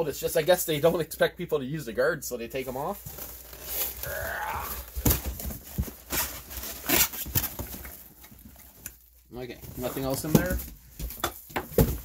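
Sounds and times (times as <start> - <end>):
parts and packaging rummaged: 2.4 - 12.0.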